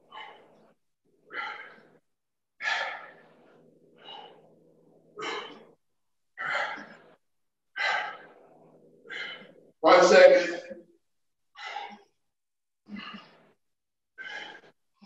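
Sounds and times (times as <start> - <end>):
man breathing hard: 0.0 - 9.8, 11.5 - 13.6, 14.2 - 15.0.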